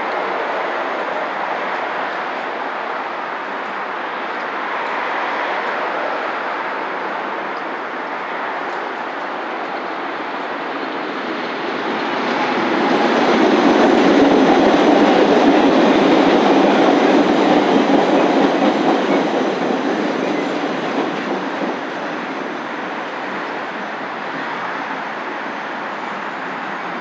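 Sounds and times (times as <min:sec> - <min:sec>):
train rumbling and clattering on rails: 0:00.0 - 0:27.0.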